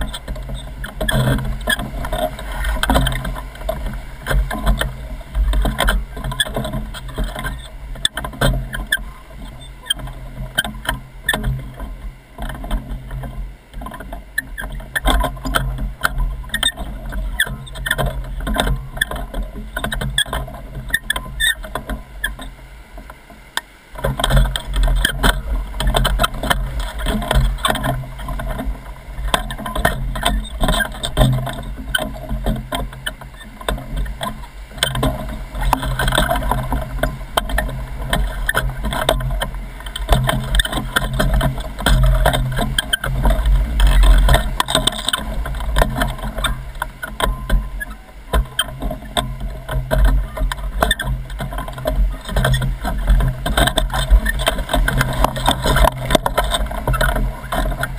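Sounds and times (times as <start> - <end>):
waves splashing against raft: 0.0 - 57.9.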